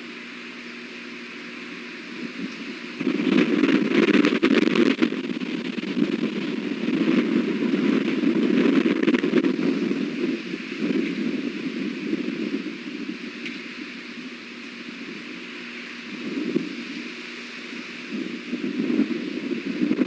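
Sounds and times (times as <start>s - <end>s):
wind gusting on microphone: 1.0s - 20.0s.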